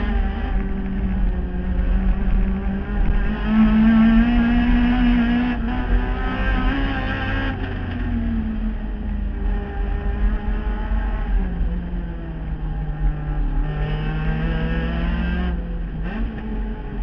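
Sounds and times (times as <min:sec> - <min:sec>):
race car engine at high revs: 0:00.0 - 0:17.0.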